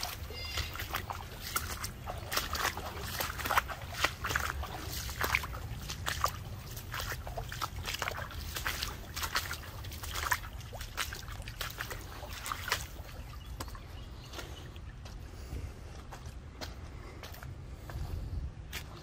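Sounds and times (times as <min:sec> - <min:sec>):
creek water splashing: 0:00.0 - 0:17.6.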